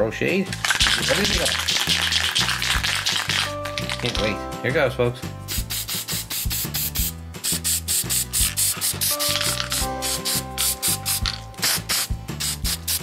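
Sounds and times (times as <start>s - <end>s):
spray can hissing: 0.5s - 4.2s, 5.5s - 13.0s
music with bass and beat: 0.7s - 13.0s.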